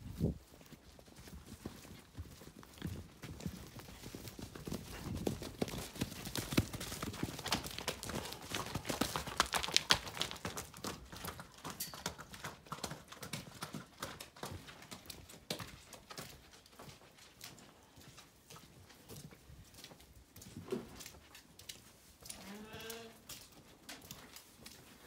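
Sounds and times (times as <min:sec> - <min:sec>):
horses galloping hoofbeats: 0:00.0 - 0:25.0.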